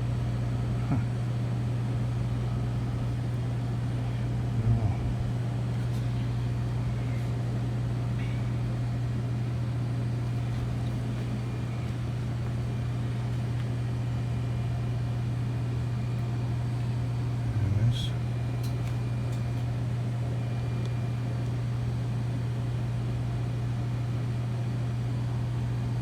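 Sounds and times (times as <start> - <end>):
refrigerator unit humming: 0.0 - 26.0.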